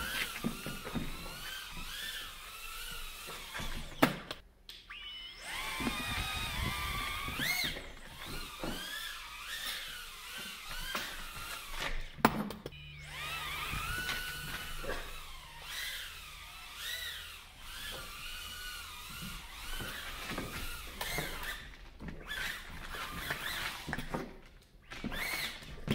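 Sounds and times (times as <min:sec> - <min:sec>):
quadcopter motors whining: 0:00.0 - 0:24.2, 0:24.9 - 0:25.9.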